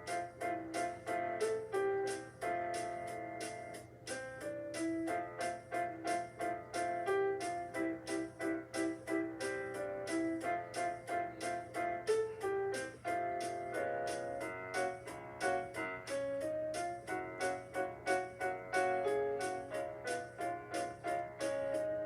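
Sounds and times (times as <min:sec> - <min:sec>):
electronic keyboard melody: 0:00.0 - 0:22.0
light ticking percussion: 0:00.0 - 0:22.0.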